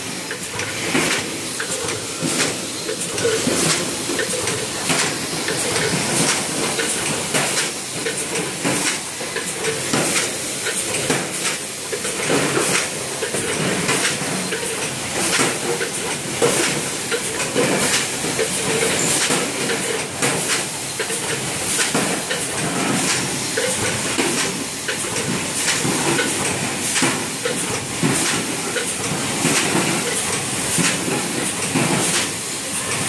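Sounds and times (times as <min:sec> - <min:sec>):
printing machine clattering: 0:00.0 - 0:33.0.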